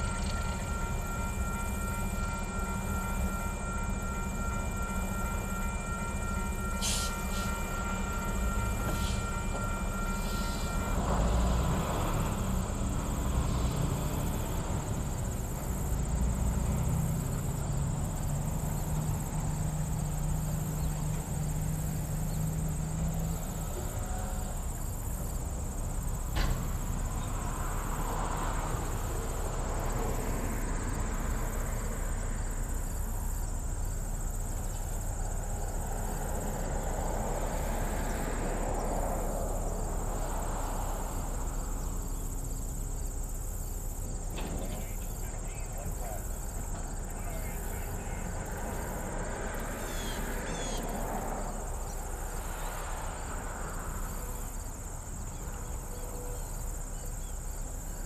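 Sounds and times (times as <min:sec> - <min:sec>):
diesel locomotive rumbling: 0:00.0 - 0:58.0
insects buzzing: 0:00.0 - 0:58.0.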